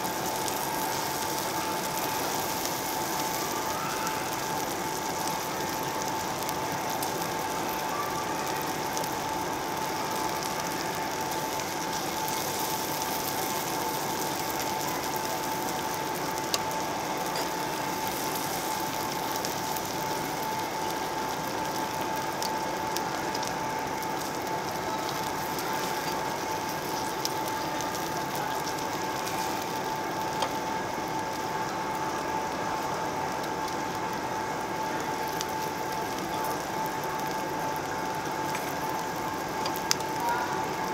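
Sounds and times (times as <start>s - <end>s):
pork sizzling on grill: 0.0s - 40.9s.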